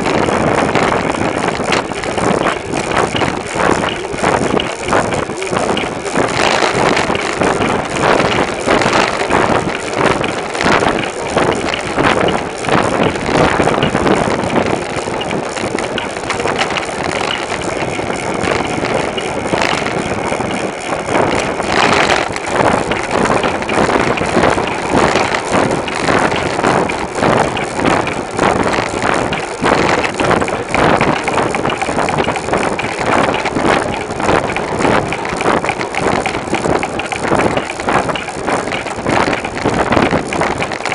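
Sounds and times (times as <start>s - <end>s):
bicycle rattles and bumps: 0.0s - 40.9s
road noise: 0.0s - 40.9s
rushing wind: 0.0s - 40.9s.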